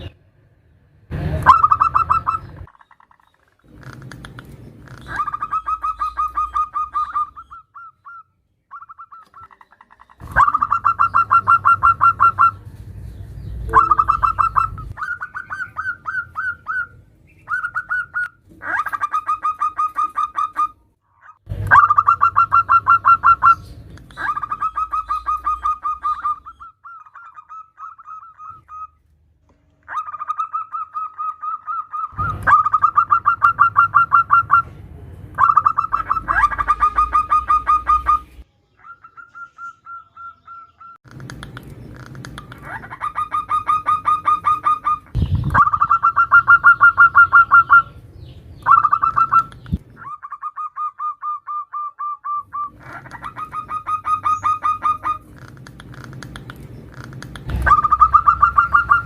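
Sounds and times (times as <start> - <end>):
dove calling: 1.1 - 29.0, 29.9 - 34.8, 35.4 - 59.0.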